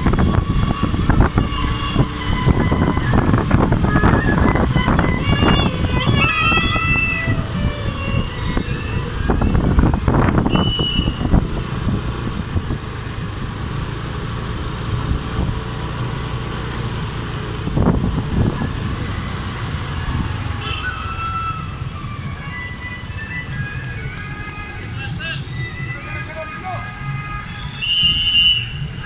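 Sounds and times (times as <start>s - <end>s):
low traffic rumble: 0.0s - 29.0s
motorcycles passing: 0.0s - 29.0s.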